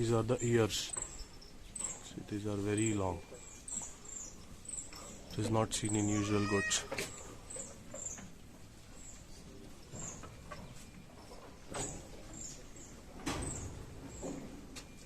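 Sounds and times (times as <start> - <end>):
small birds chirping: 0.0 - 14.5.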